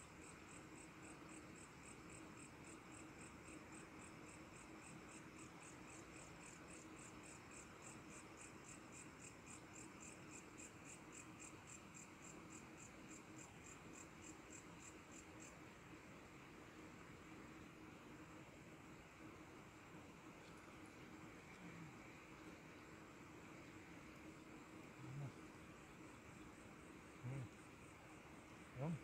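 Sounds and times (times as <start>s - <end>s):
faint steady hum: 0.0s - 29.0s
insect chirping: 0.0s - 29.0s
low hiss: 0.0s - 29.0s.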